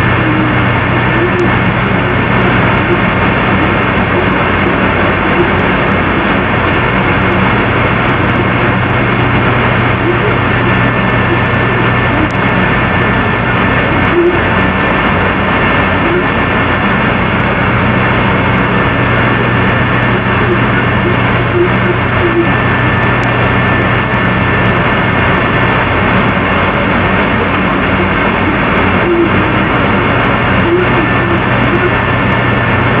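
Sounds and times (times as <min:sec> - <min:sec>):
loud droning noise: 0:00.0 - 0:33.0
low hum: 0:00.0 - 0:33.0.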